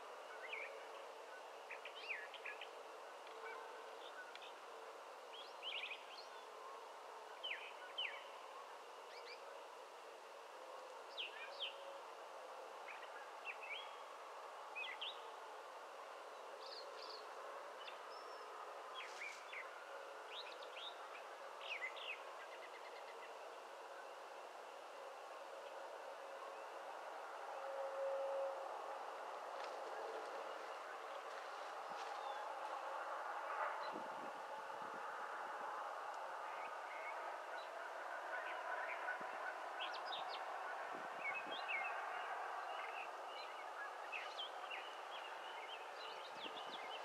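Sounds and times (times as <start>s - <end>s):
faint countryside hum: 0.0s - 47.0s.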